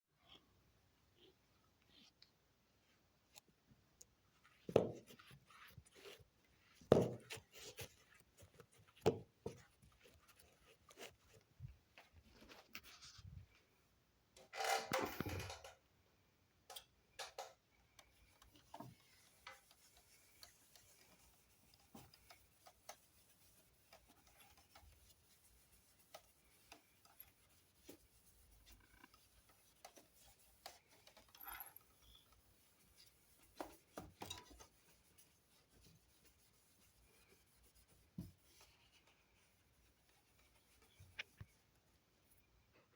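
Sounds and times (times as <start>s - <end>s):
hands rubbing and clicking on parts: 1.2s - 13.7s, 14.3s - 15.9s, 16.6s - 42.9s.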